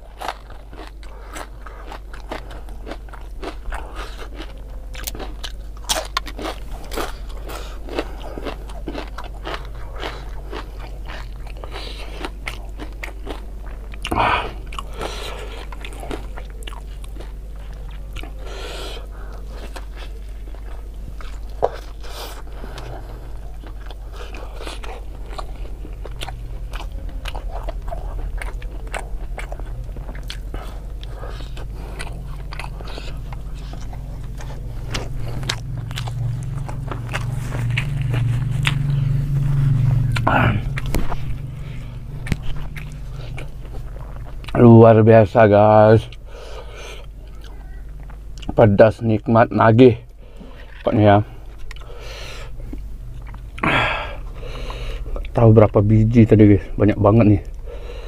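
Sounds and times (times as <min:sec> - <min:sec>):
crunchy chewing of fried chips: 0:00.0 - 0:58.0
steady low hum: 0:00.0 - 0:58.0.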